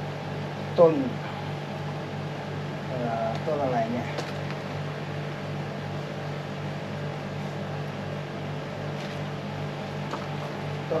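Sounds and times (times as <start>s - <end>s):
low mechanical hum with hiss: 0.0s - 11.0s.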